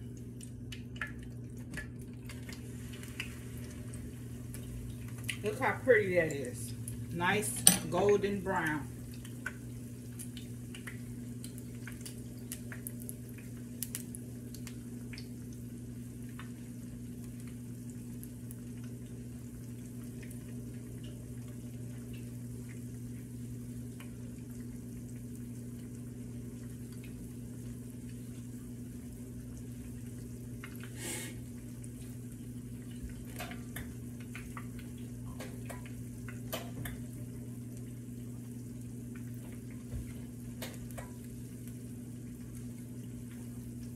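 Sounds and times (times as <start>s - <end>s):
oil sizzling with pops: 0.0s - 43.9s
steady low hum: 0.0s - 43.9s.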